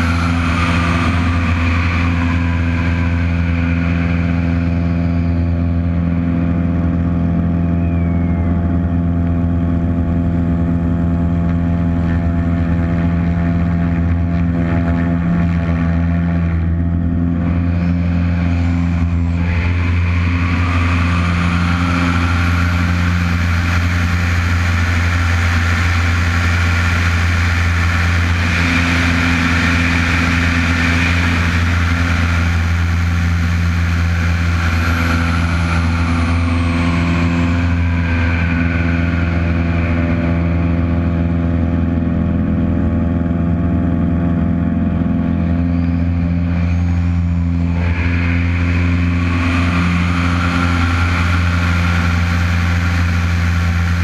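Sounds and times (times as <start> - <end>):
rushing airflow: 0.0 - 7.2, 8.6 - 54.0
plane engine and propeller: 0.0 - 54.0.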